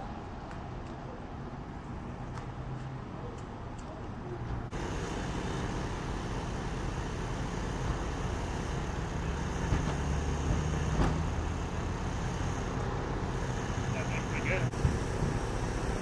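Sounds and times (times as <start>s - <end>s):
engine running: 2.3s - 16.0s.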